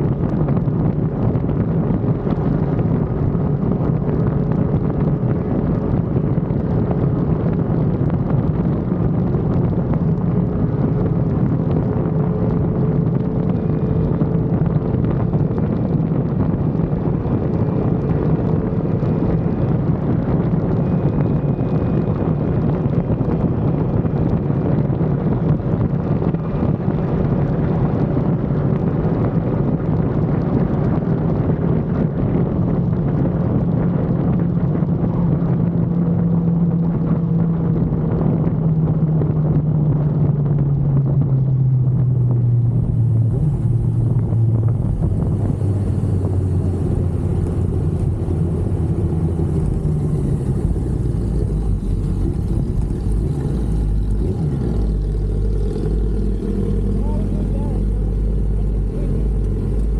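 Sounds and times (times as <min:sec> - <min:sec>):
motorcycle engine cruising: 0:00.0 - 0:59.9
wind buffeting microphone: 0:00.0 - 0:59.9.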